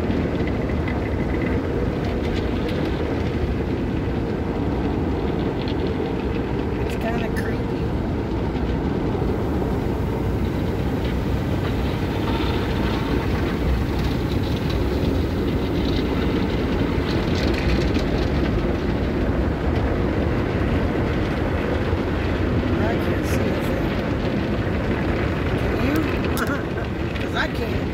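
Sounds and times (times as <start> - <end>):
water spray and machinery rumble: 0.0 - 27.9.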